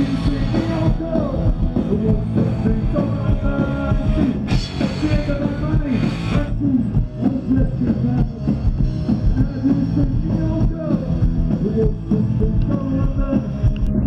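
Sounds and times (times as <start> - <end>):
distorted electric guitar: 0.0 - 14.0
drums: 0.0 - 14.0
man singing into microphone: 0.0 - 14.0.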